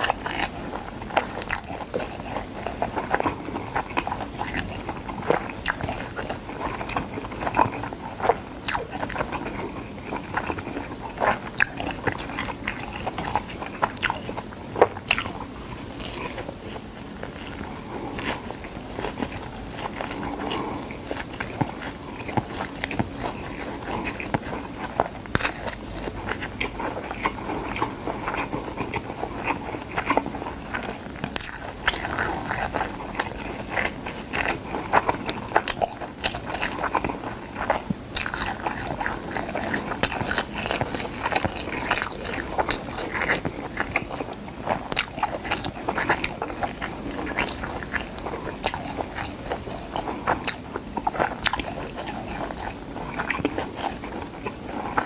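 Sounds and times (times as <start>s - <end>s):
crunching dry seaweed: 0.0s - 55.0s.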